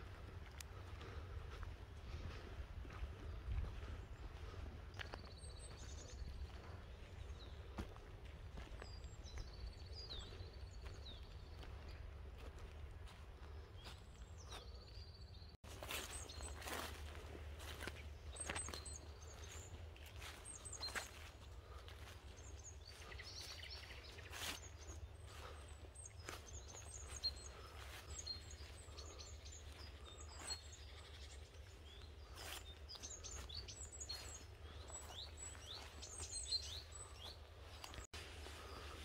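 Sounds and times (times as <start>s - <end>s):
songbirds chirping: 0.0s - 39.0s.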